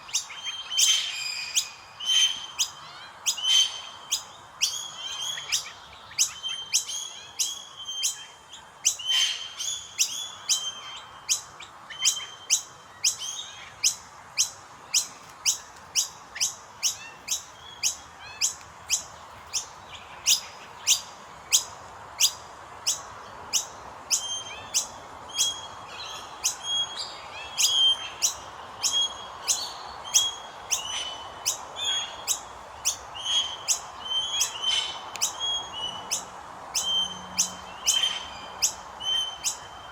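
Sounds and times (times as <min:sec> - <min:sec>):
bird chicks harsh chirps: 0:00.0 - 0:39.9.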